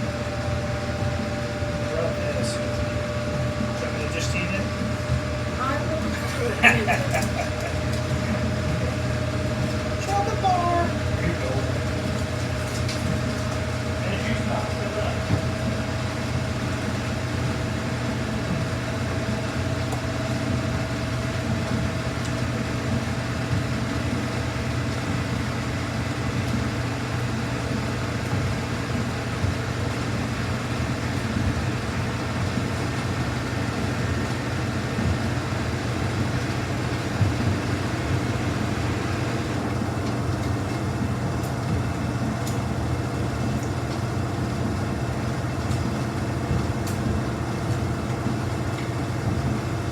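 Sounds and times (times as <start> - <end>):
washing machine hum and rumble: 0.0 - 49.9.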